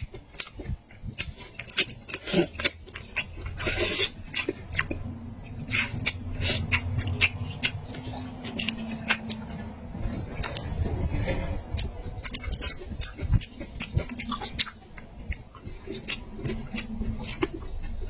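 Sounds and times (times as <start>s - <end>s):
chewing meat: 0.0s - 18.0s.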